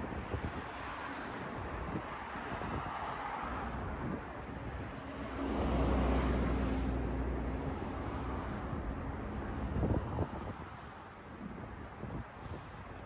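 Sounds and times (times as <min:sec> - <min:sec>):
city traffic noise: 0:00.0 - 0:13.0.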